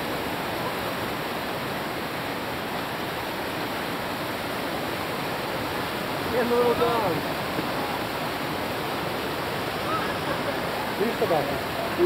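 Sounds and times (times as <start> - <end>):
whitewater rapid rushing: 0.0 - 12.0.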